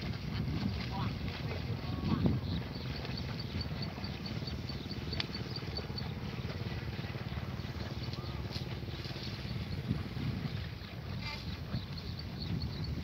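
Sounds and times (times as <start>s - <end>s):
small engine running: 1.6s - 12.2s.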